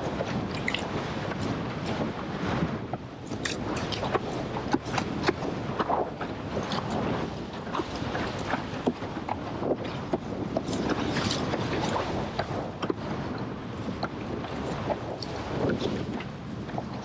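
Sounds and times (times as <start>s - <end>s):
board hull slapping on water: 0.0s - 17.0s
rush of water: 0.0s - 17.0s
wind buffeting microphone: 0.0s - 17.0s.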